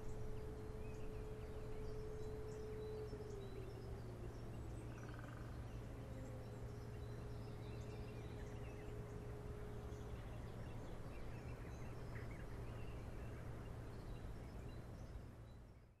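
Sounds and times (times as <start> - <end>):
distant motor siren tone: 0.0 - 13.6
low outdoor rumble: 0.0 - 15.5.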